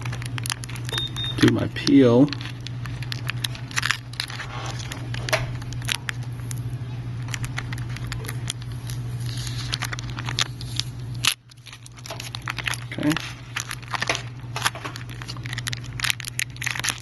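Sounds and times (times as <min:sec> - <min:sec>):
low hum: 0:00.0 - 0:17.0
plastic film peeling crackles: 0:00.0 - 0:17.0.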